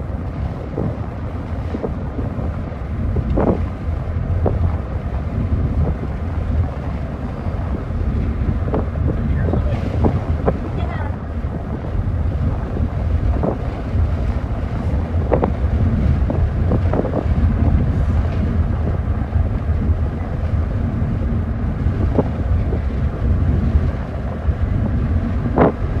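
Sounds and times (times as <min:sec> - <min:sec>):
car cabin rumble: 0:00.0 - 0:26.0.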